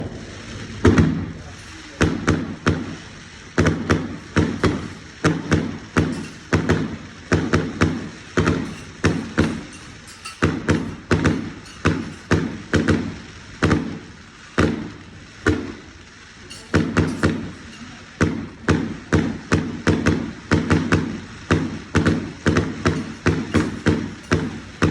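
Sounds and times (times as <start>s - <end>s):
fireworks banging: 0.0s - 24.9s.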